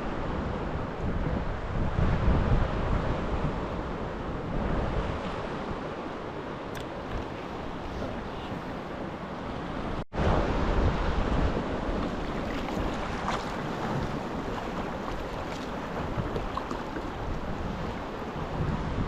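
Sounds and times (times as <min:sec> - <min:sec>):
sea waves and water: 0:00.0 - 0:19.0
wind buffeting microphone: 0:00.0 - 0:19.0.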